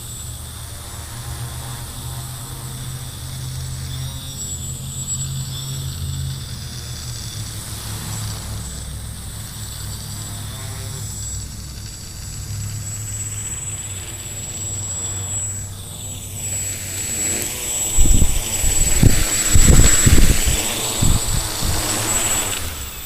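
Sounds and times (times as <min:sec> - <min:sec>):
quadcopter motors humming: 0:00.0 - 0:23.0.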